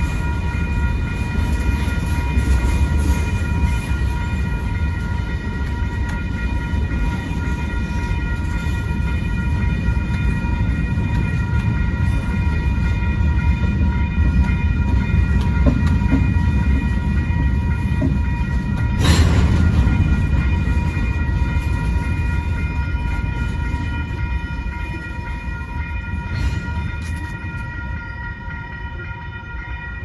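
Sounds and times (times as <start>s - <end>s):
freight train cars rumbling: 0.0s - 30.0s.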